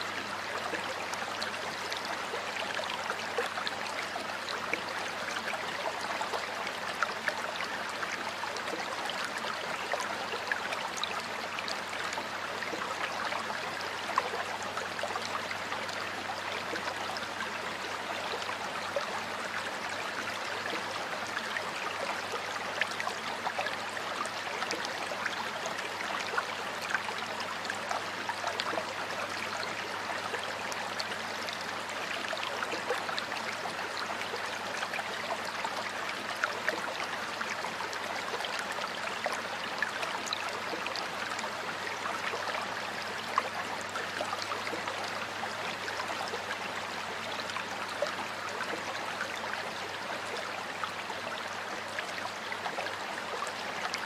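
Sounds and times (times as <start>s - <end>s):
stream water burbling: 0.0s - 54.0s
water splashes and drips: 0.0s - 54.0s.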